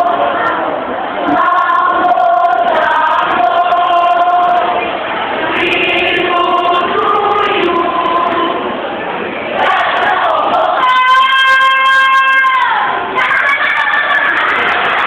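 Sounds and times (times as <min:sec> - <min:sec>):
young voices chanting in unison: 0:00.0 - 0:08.8, 0:09.5 - 0:15.0.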